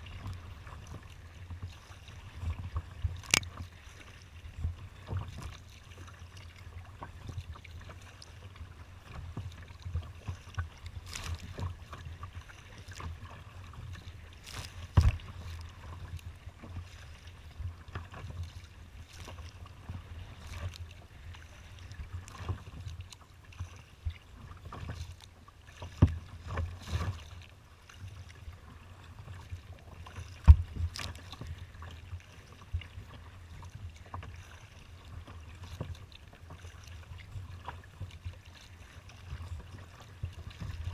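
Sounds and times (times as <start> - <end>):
water slapping against kayak hull: 0.0 - 40.9
wind rumble on microphone: 0.0 - 40.9.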